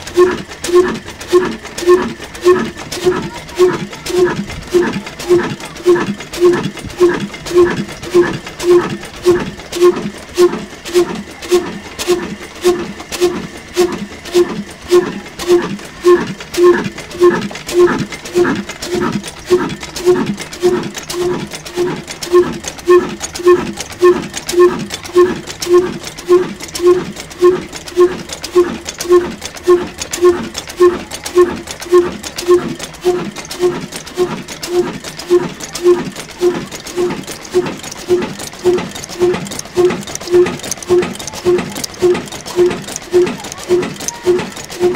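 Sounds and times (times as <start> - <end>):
diesel engine exhaust puffing: 0.0 - 44.9.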